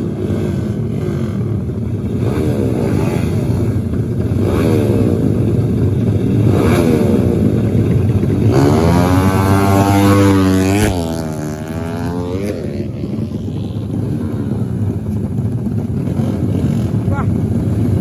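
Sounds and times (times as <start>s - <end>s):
dirt bike engine accelerating: 0.0s - 18.0s.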